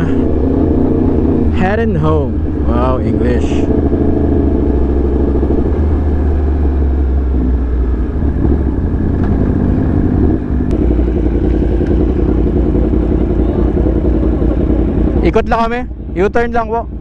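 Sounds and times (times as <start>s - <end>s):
motorcycle engine at speed: 0.0s - 17.0s.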